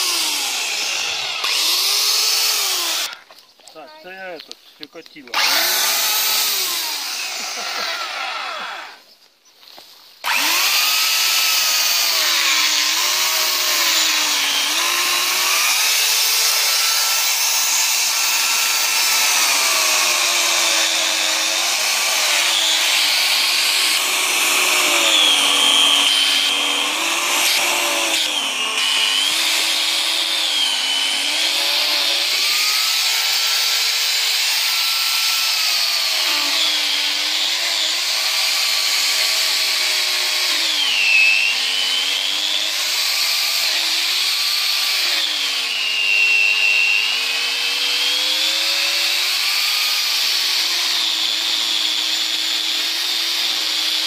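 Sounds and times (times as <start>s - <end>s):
electric chainsaw cutting log: 0.0s - 3.2s, 5.3s - 9.0s, 10.2s - 54.0s.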